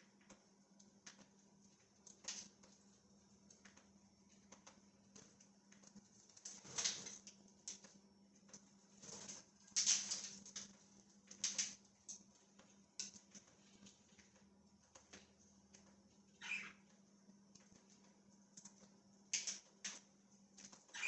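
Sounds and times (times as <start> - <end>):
budgies tapping and scratching: 3.4 - 20.0, 20.6 - 21.0.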